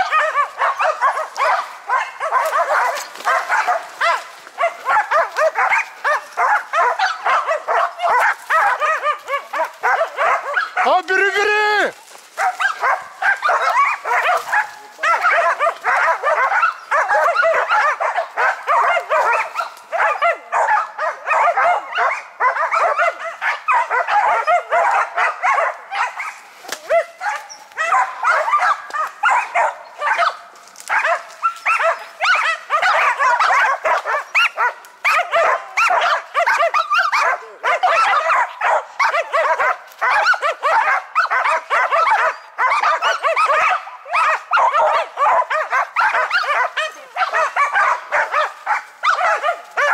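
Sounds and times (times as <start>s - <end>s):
dogs barking rapidly: 0.0s - 49.9s.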